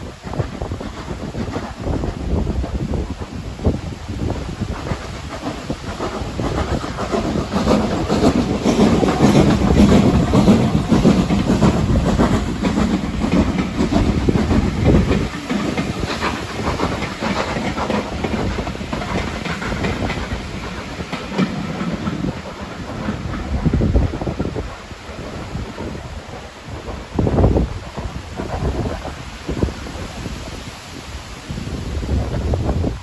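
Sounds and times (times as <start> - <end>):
steam train running: 0.0 - 33.0.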